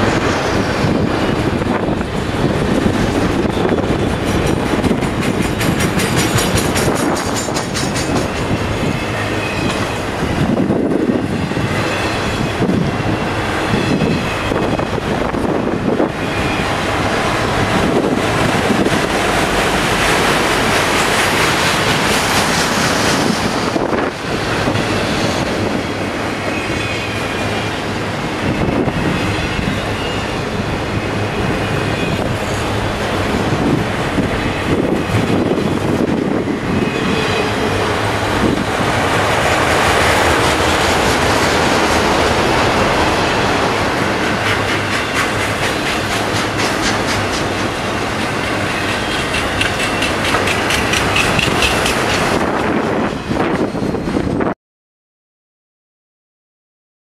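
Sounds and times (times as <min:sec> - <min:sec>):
train wheels rumbling on rail: 0:00.0 - 0:54.6.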